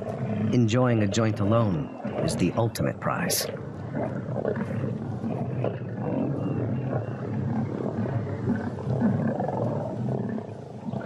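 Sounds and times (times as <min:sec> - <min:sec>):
lions growling: 0:00.0 - 0:11.0.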